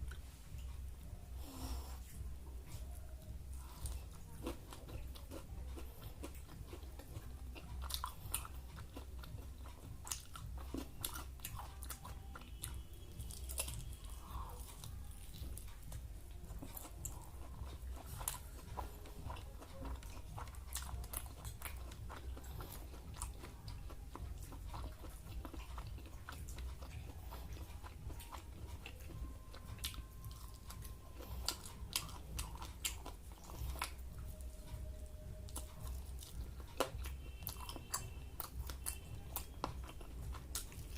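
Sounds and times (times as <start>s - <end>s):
chewing crunchy food: 0.0s - 40.9s
steady low hum: 0.0s - 40.9s.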